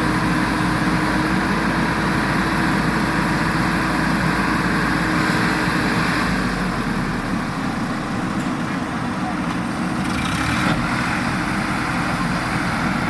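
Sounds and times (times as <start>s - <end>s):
heavy machinery diesel engine running: 0.0s - 13.0s.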